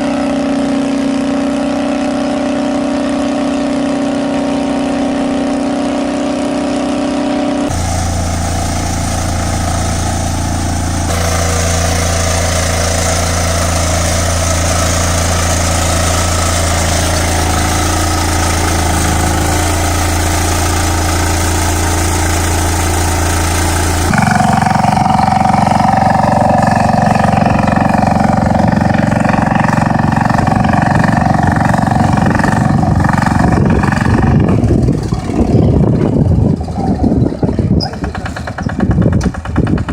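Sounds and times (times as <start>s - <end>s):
small tractor engines running: 7.7s - 39.9s.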